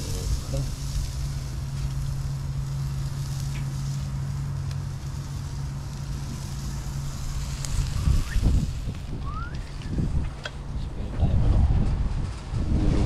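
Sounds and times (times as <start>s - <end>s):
fish sizzling on a grill: 0.0s - 10.5s
steady low hum: 0.0s - 13.0s.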